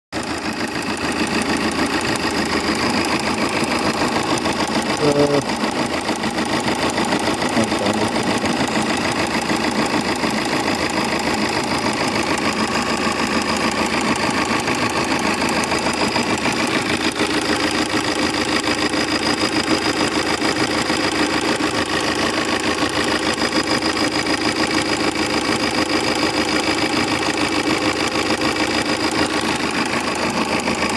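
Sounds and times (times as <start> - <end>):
diesel engine idling with ticking: 0.2 - 30.9.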